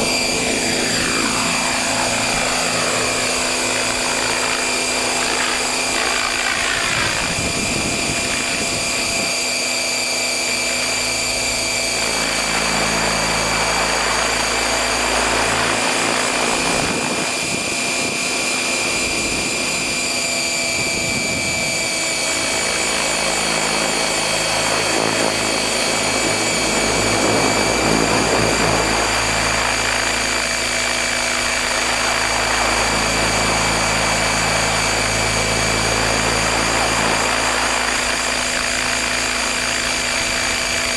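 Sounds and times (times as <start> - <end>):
rc helicopter whine: 0.0 - 40.9.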